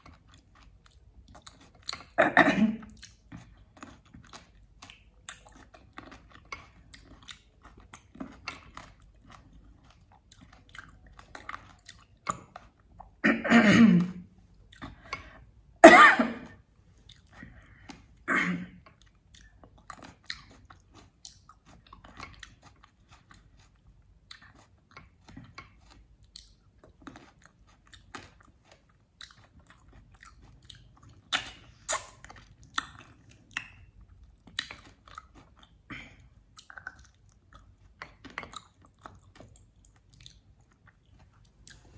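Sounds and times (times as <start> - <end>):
wet chewing and smacking: 0.0 - 13.2, 14.0 - 15.8, 16.5 - 41.9.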